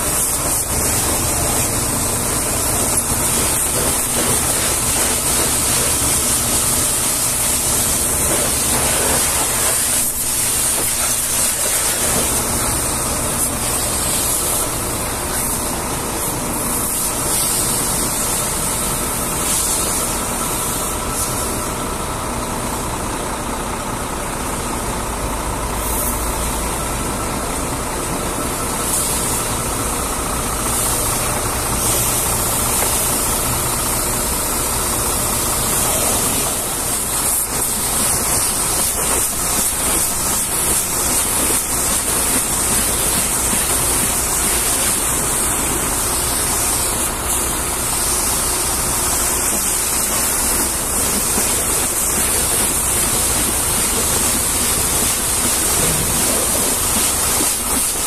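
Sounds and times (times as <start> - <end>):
spraying water hiss: 0.0 - 21.7, 25.7 - 27.0, 28.4 - 58.0.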